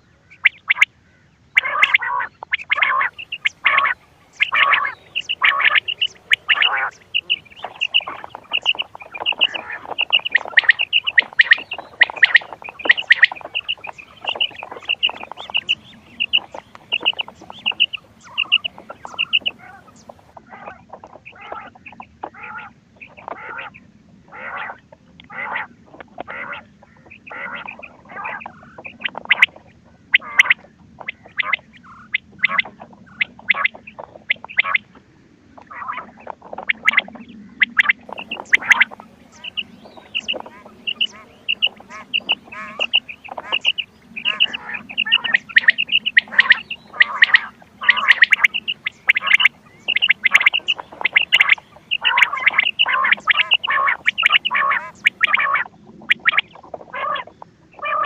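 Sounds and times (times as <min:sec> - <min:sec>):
quail calls: 0:00.3 - 0:00.9, 0:01.5 - 0:34.9, 0:35.6 - 0:58.0.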